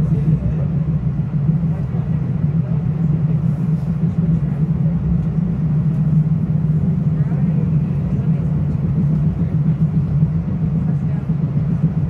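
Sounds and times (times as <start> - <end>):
train rumbling inside passenger car: 0.0 - 12.0.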